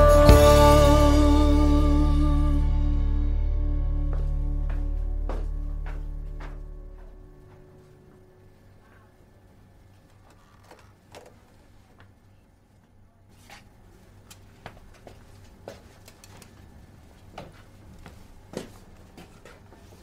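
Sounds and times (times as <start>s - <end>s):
faint low hum: 0.7s - 20.0s.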